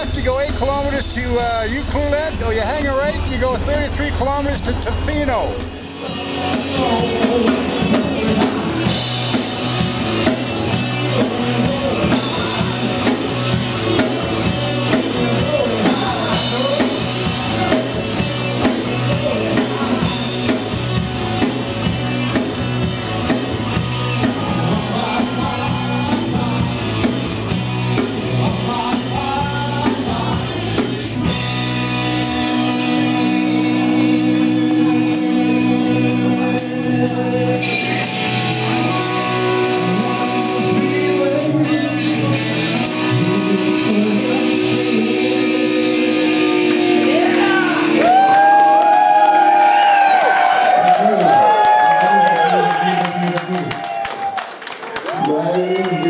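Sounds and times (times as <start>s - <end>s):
held guitar chords: 0.0s - 50.3s
rock music with drums and guitar: 0.0s - 50.8s.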